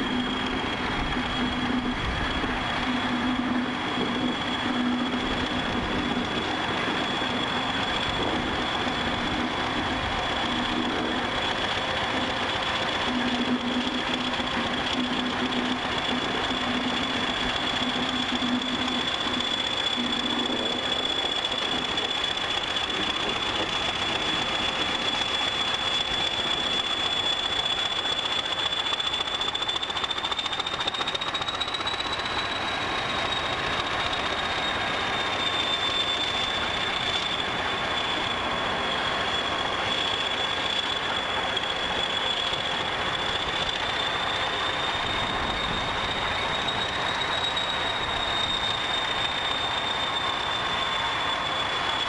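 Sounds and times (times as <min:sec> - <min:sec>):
diesel locomotive engine: 0:00.0 - 0:52.0
high wavering whistle: 0:00.0 - 0:52.0.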